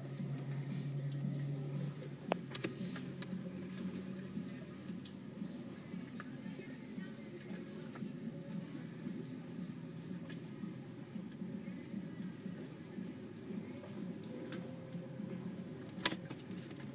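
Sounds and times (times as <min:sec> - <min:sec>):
low hum: 0:00.0 - 0:16.9.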